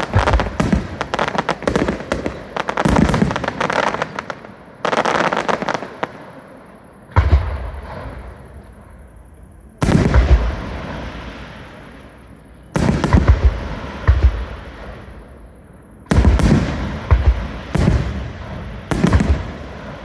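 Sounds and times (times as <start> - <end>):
fireworks booming: 0.0 - 6.4, 7.0 - 20.0.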